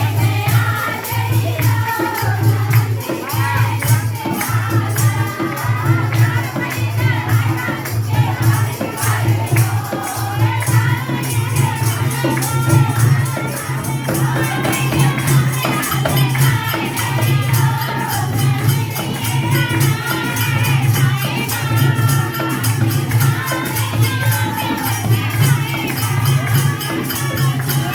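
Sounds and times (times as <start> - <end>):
devotional singing: 0.0 - 27.9
tambourine jingling beat: 0.0 - 27.9.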